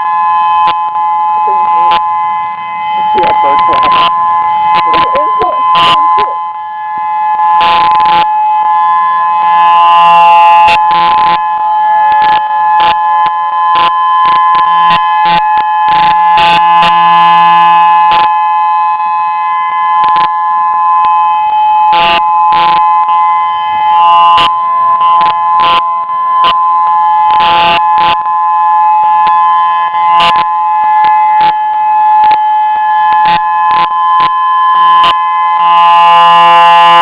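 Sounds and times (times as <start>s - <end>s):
two-pitch warning siren: 0.0s - 37.0s.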